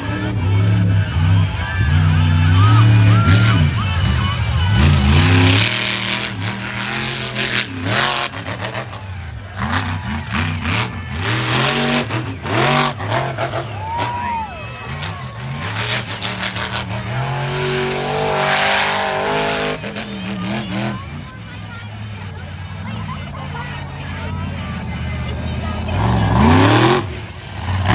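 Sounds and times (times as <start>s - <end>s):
monster truck engine revving: 0.0s - 27.9s.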